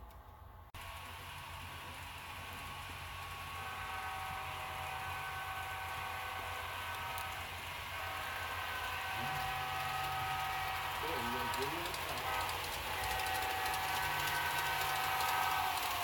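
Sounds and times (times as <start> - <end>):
diesel engine rumble: 0.3 - 16.0.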